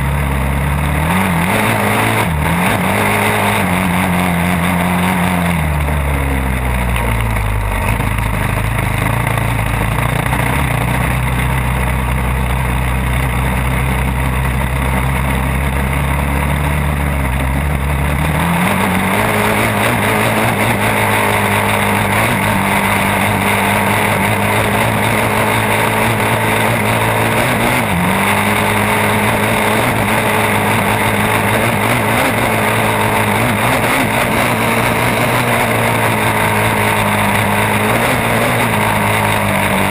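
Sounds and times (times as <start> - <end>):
atv engine while riding: 0.0 - 39.9.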